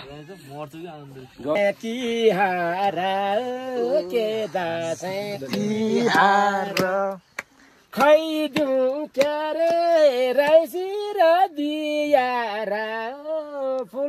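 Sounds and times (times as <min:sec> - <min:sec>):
person singing unaccompanied: 0:01.4 - 0:14.0.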